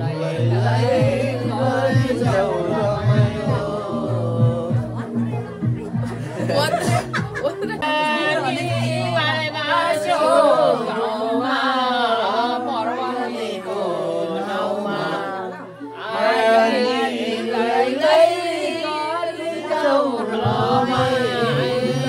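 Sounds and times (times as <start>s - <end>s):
group singing unaccompanied: 0.0s - 22.0s.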